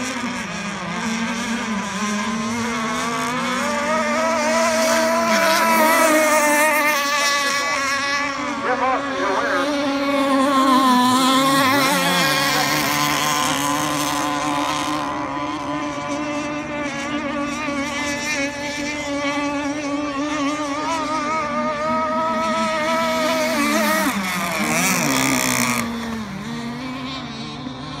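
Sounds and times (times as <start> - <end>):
model boat engines buzzing whine: 0.0 - 28.0.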